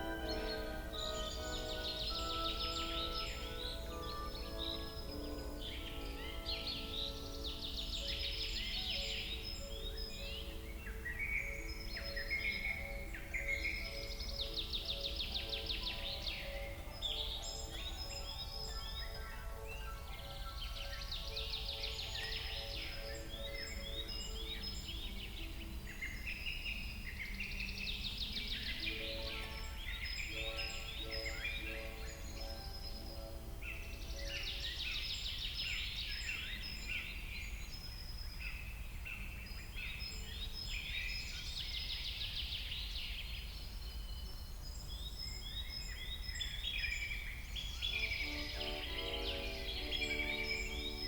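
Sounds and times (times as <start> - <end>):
songbirds chirping and trilling: 0.0 - 51.0.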